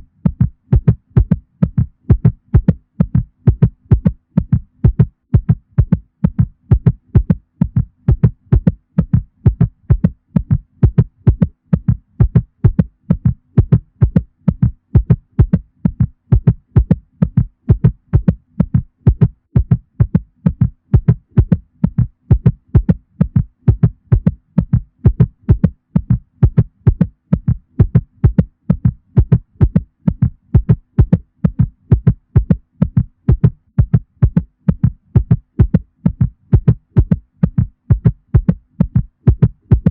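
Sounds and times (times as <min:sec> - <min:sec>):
low thumping heartbeat: 0:00.0 - 0:39.9.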